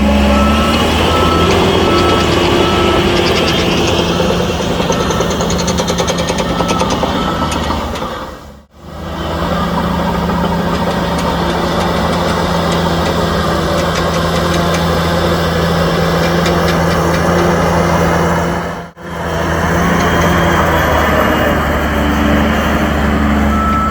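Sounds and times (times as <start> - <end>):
heavy diesel engine humming: 0.0 - 23.9.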